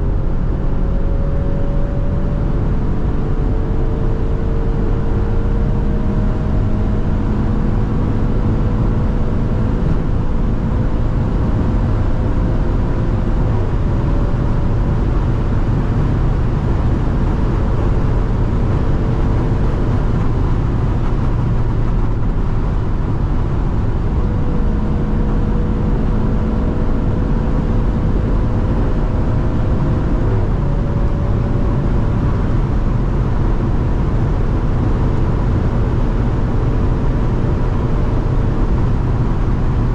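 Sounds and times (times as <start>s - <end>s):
car engine pulling hard: 0.0s - 39.9s
road and wind noise: 0.0s - 39.9s.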